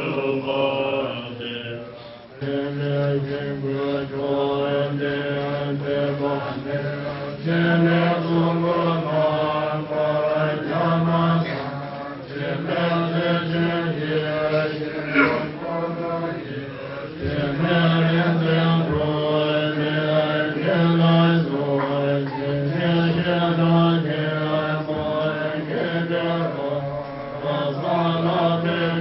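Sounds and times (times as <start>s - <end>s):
slow chanted prayer: 0.0s - 29.0s.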